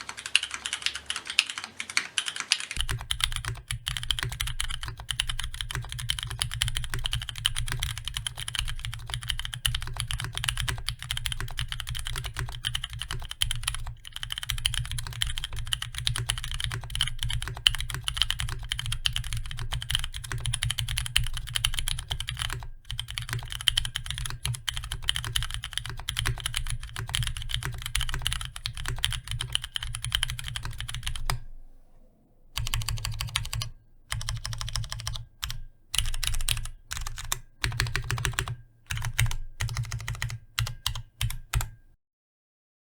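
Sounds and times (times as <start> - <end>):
fast mechanical keyboard typing: 0.0 - 31.4, 32.6 - 41.8.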